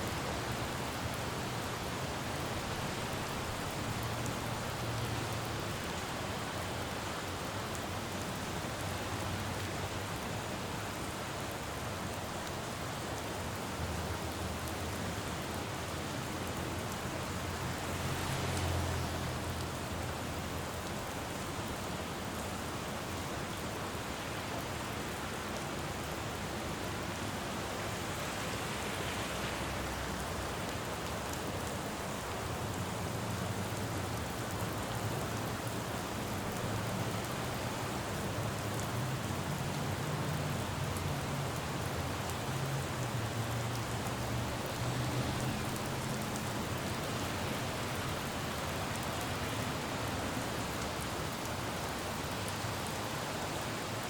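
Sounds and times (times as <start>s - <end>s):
rain falling on a road: 0.0s - 54.0s
traffic rumble on wet street: 0.0s - 54.0s.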